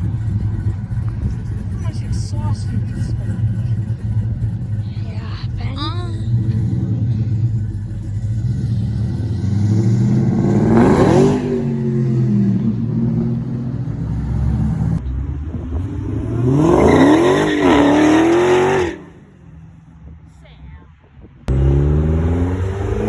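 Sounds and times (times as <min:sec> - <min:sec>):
car engine revving: 0:00.0 - 0:20.2, 0:21.4 - 0:23.0.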